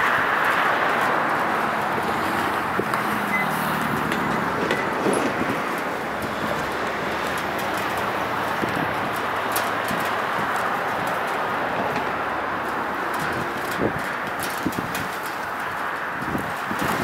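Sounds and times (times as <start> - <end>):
truck engine driving away: 0.0 - 15.4
wind noise: 0.0 - 17.0.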